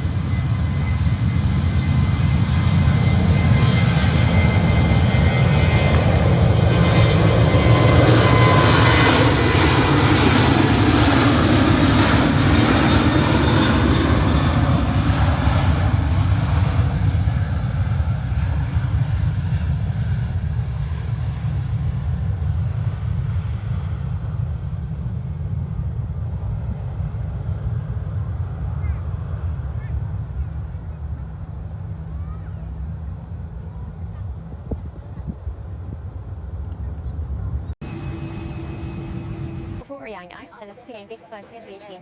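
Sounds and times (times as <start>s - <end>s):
jet engines rushing: 0.0s - 42.0s.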